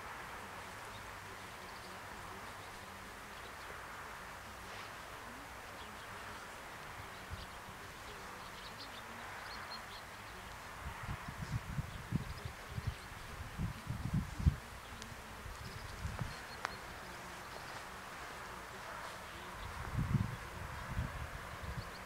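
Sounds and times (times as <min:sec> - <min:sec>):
steady background hiss: 0:00.0 - 0:22.0
wind buffeting microphone: 0:00.0 - 0:22.0
faint bird chirps: 0:00.7 - 0:22.0.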